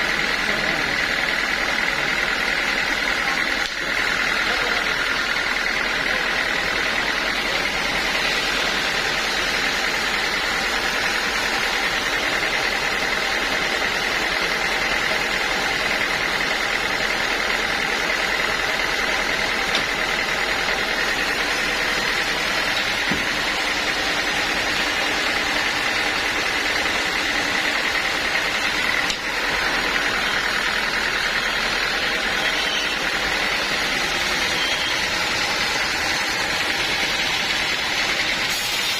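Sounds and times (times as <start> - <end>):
high mechanical whine: 0.0 - 38.9
sawmill machinery drone: 0.0 - 38.9.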